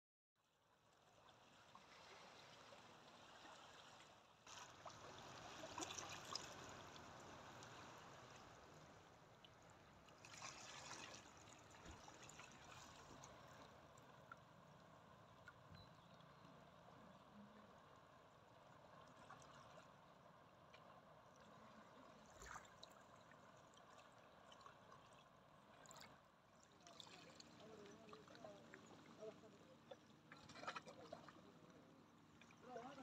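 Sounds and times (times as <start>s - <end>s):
water lapping over pebbles: 1.2s - 15.7s, 18.6s - 33.0s.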